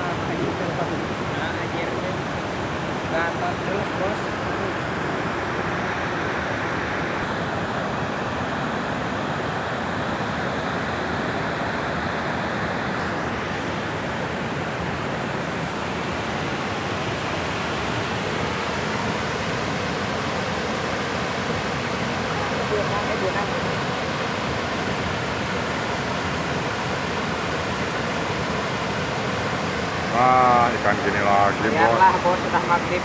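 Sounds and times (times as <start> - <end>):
water rushing at a dam: 0.0 - 33.0.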